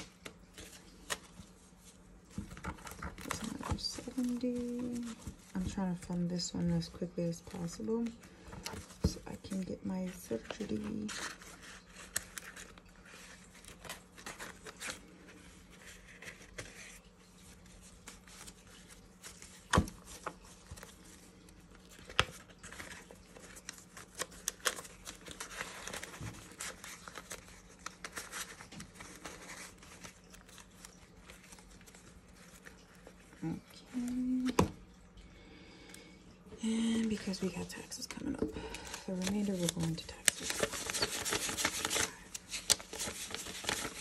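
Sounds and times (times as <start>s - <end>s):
banknotes rustling and flicking: 0.0s - 34.7s, 36.6s - 44.0s
plastic sleeves crinkling: 0.0s - 35.2s, 35.9s - 44.0s.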